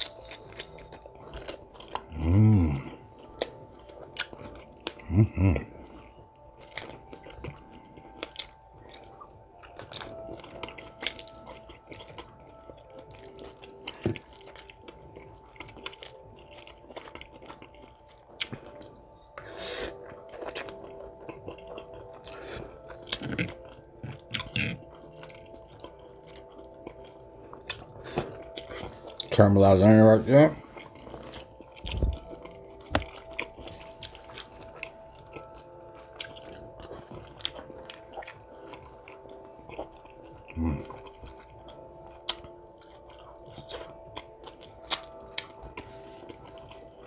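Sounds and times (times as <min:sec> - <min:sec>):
wet chewing mouth sounds: 0:00.0 - 0:29.4, 0:30.5 - 0:47.0.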